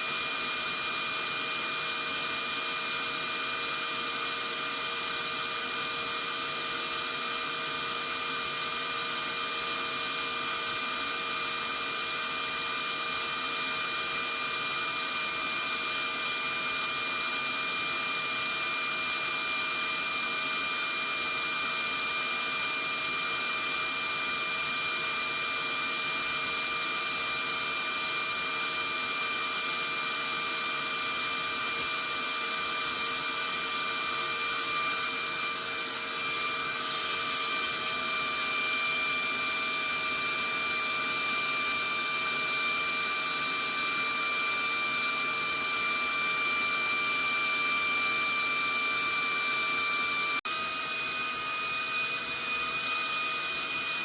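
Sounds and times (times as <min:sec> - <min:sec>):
vacuum cleaner motor running: 0:00.0 - 0:54.0.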